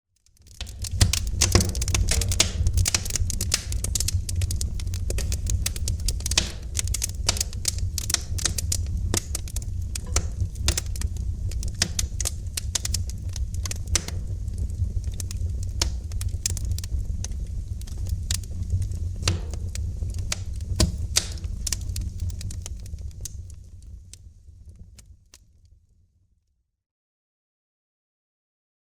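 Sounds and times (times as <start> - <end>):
wood fire crackling and popping: 0.2 - 25.5
low rumble of burning fire: 0.2 - 26.2.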